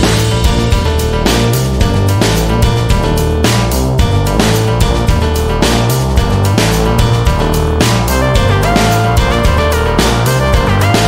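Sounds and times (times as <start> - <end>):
dramatic music with driving beat: 0.0 - 11.0.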